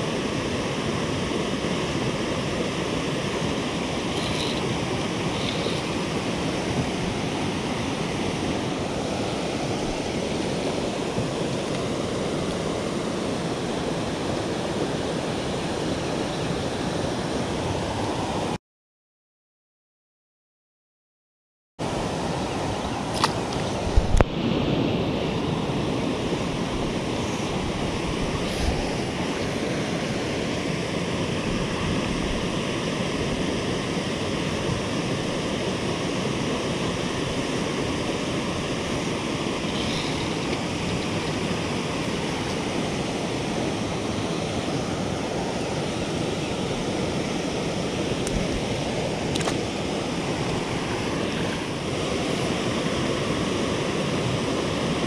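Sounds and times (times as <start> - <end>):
water rushing over rocks: 0.0 - 18.6, 21.8 - 55.0.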